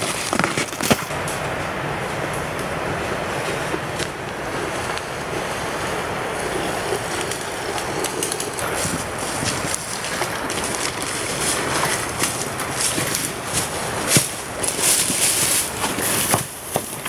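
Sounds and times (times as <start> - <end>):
steady outdoor rushing noise: 0.0 - 17.0.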